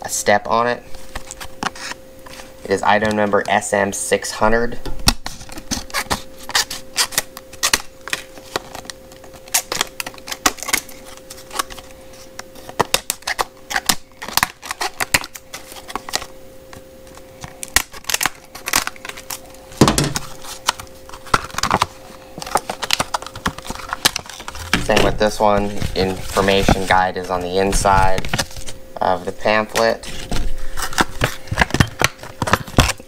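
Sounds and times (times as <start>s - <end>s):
plastic packaging crackling: 5.1s - 16.3s, 17.0s - 33.0s.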